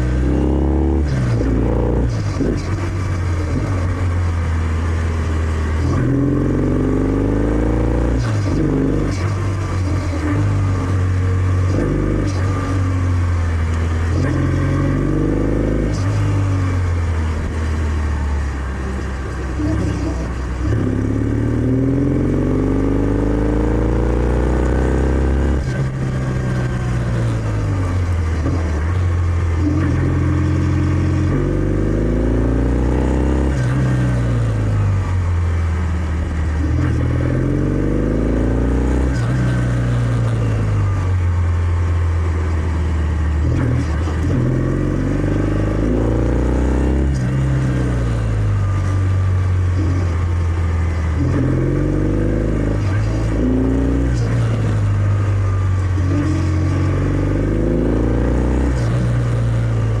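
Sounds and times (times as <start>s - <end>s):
motorcycle engine revving through gears: 0.0s - 60.0s.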